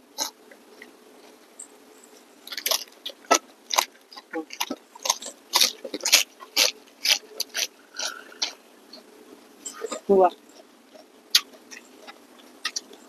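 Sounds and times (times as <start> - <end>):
people chewing crunchy food: 0.0 - 13.0.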